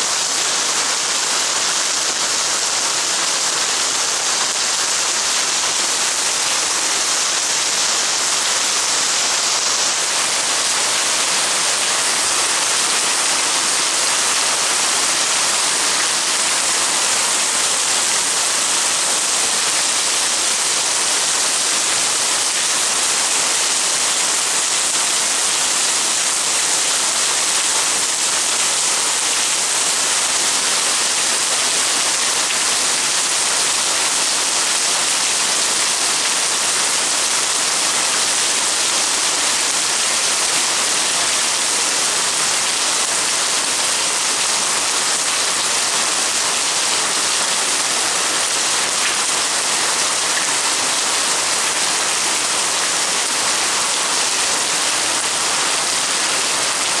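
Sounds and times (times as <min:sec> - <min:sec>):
heavy rain on roofs and paving: 0:00.0 - 0:57.0.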